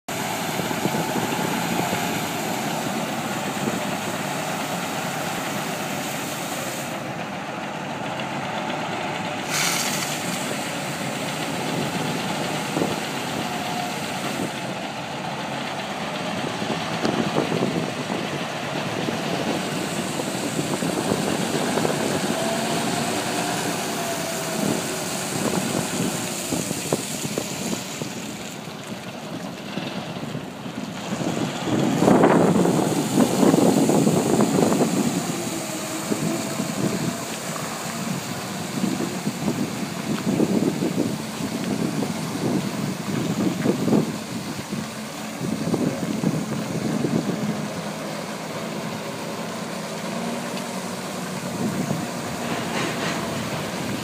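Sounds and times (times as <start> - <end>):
diesel truck engine running: 0.0 - 54.0
water spray hissing: 0.1 - 7.2, 9.4 - 14.7, 19.2 - 28.6, 31.1 - 54.0.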